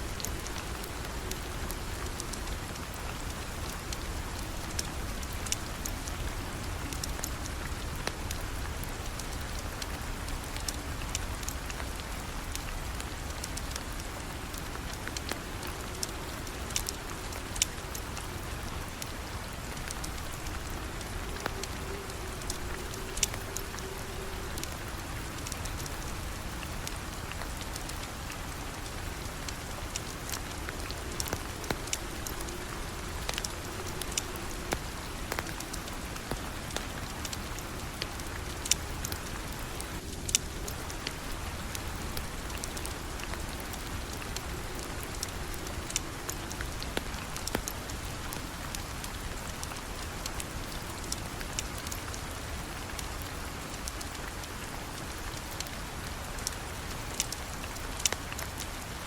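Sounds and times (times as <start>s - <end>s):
fireplace fire crackling: 0.0s - 59.0s
steady rain falling: 0.0s - 59.0s.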